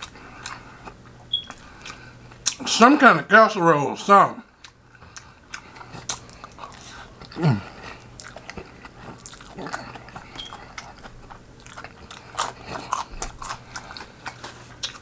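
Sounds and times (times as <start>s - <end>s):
chewing mouth clicks and smacks: 0.0s - 2.6s, 4.6s - 15.0s.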